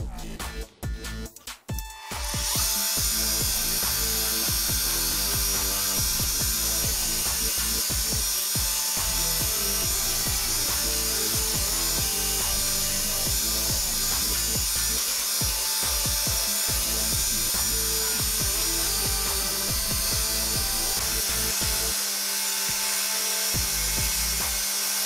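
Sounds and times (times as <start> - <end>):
background music: 0.0 - 25.0.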